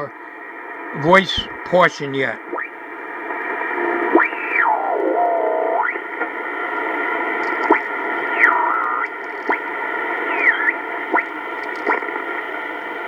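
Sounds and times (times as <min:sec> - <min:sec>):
radio band noise: 0:00.0 - 0:13.0
static crackles: 0:00.0 - 0:13.0.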